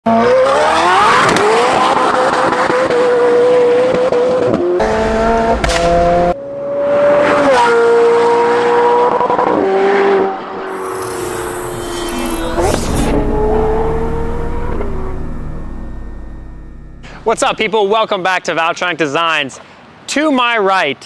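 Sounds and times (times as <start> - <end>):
car engine revving high: 0.1 - 17.6.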